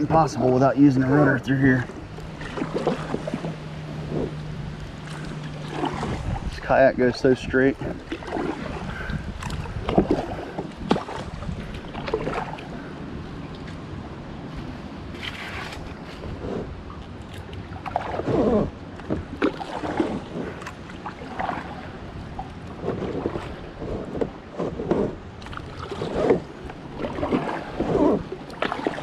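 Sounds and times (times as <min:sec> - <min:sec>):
paddle strokes splashing in water: 0:00.0 - 0:13.9, 0:14.6 - 0:29.0
wind rumble on microphone: 0:00.0 - 0:29.0.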